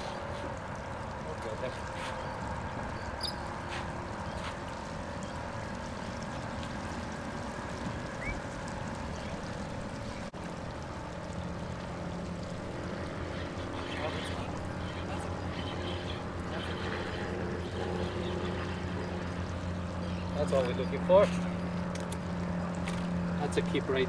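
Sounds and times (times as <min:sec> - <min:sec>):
water noise: 0:00.0 - 0:24.0
wind: 0:00.0 - 0:24.0.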